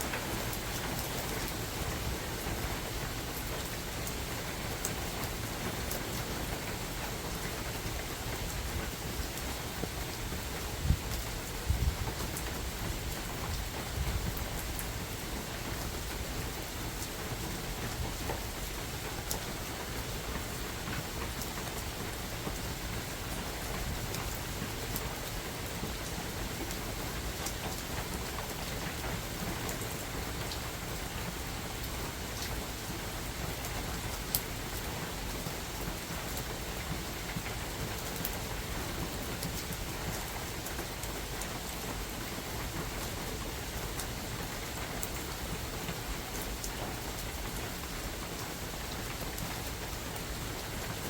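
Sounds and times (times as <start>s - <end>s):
rain falling in forest: 0.0s - 51.0s.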